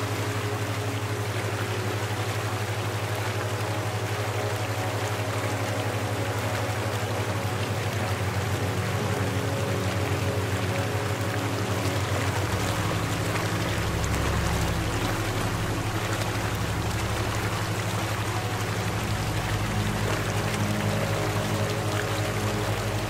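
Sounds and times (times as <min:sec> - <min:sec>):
ambient music drone: 0:00.0 - 0:23.0
rushing water: 0:00.0 - 0:23.0.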